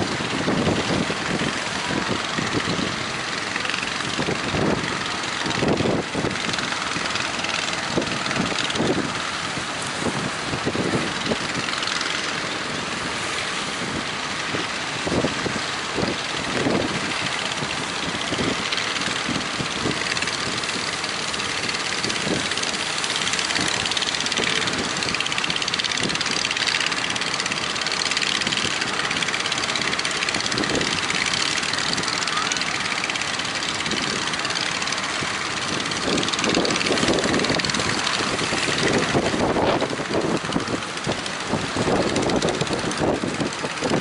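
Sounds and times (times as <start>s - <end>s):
boat engines running: 0.0s - 44.0s
gusty wind: 0.0s - 44.0s.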